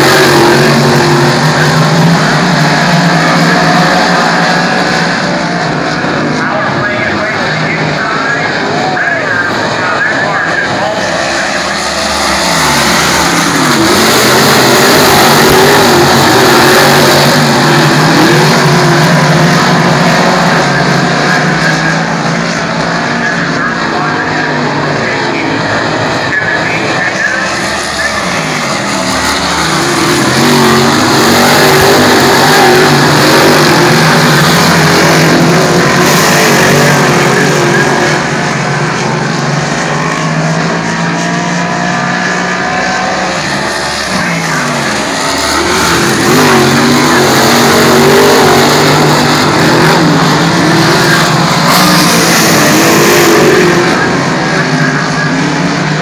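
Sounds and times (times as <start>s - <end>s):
race car engines racing: 0.0s - 56.0s.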